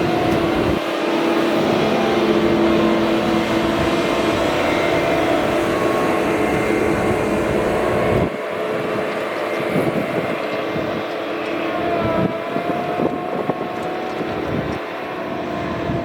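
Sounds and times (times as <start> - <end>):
noisy low rumble: 0.0 - 14.8
electric drive whining: 0.0 - 16.0.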